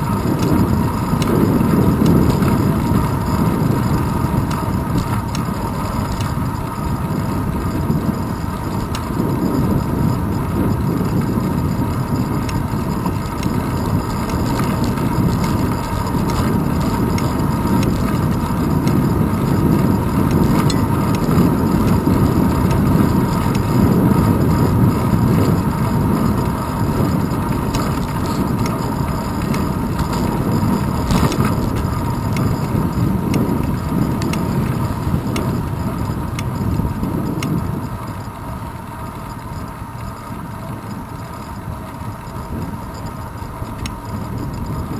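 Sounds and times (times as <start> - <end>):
road rumble: 0.0 - 44.9
wind buffeting microphone: 0.0 - 44.9.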